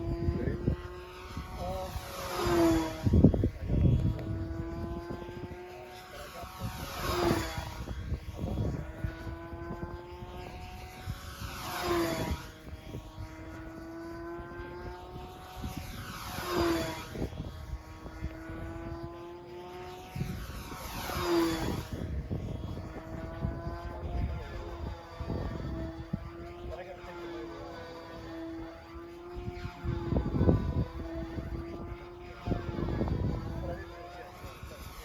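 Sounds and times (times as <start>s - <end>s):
model plane engine passing: 0.0s - 35.0s
wind noise on microphone: 0.0s - 35.0s.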